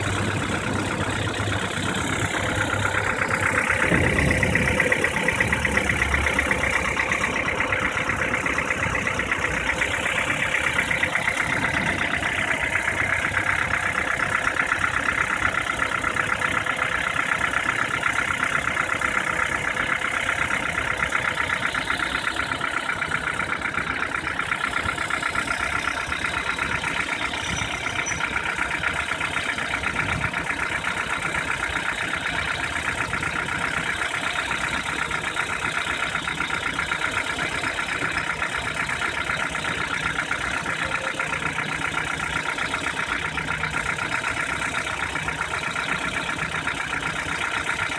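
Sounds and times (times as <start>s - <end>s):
car engine idling with knocking: 0.0s - 47.9s.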